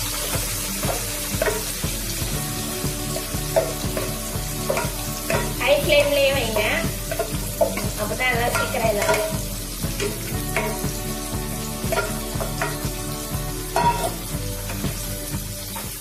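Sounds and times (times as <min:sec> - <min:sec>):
oil bubbling: 0:00.0 - 0:16.0
prawns sizzling in hot oil: 0:00.0 - 0:16.0.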